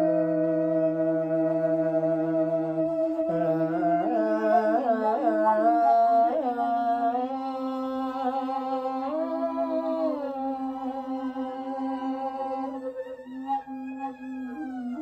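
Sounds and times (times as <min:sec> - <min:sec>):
bamboo flute melody: 0:00.0 - 0:15.0
bowed string instrument: 0:00.0 - 0:15.0.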